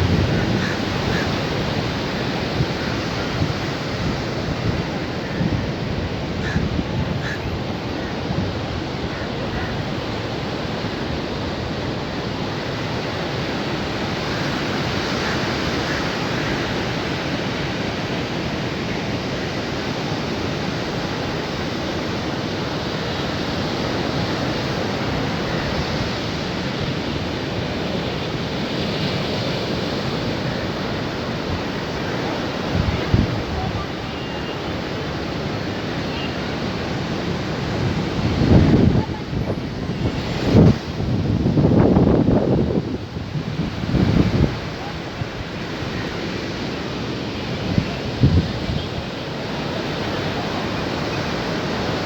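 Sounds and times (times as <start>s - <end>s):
sea waves washing onto beach: 0.0s - 52.0s.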